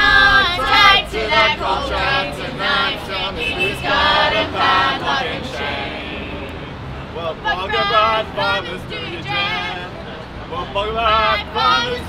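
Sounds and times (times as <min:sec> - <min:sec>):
group of people singing: 0:00.0 - 0:06.6, 0:07.2 - 0:12.0.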